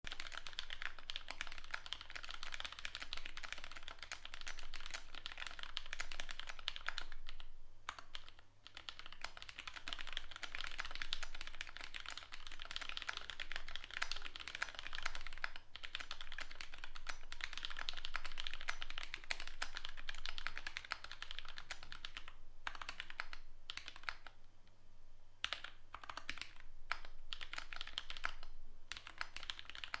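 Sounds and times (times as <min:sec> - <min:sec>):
mechanical keyboard typing: 0:00.1 - 0:24.4, 0:25.4 - 0:30.0.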